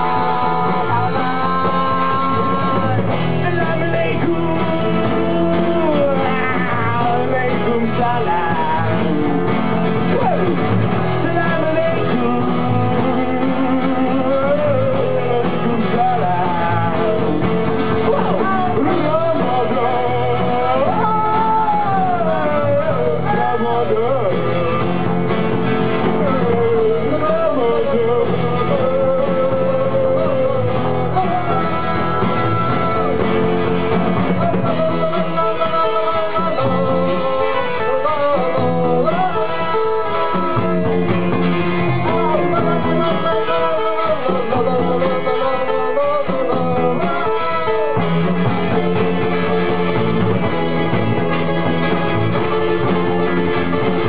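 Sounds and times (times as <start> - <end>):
lead singer singing: 0.0 - 54.0
rock band playing live: 0.0 - 54.0.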